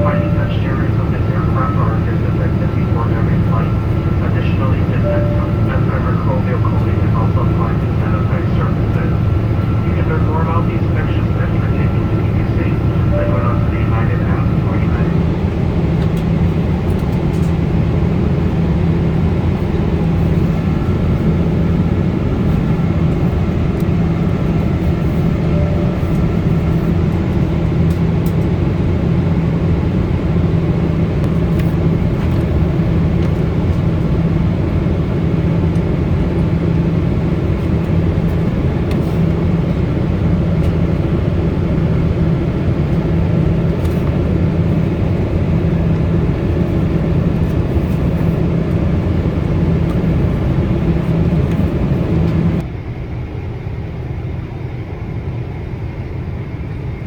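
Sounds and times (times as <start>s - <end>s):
cabin airflow: 0.0s - 52.7s
low hum: 0.0s - 52.7s
aircraft engine drone: 0.0s - 57.0s.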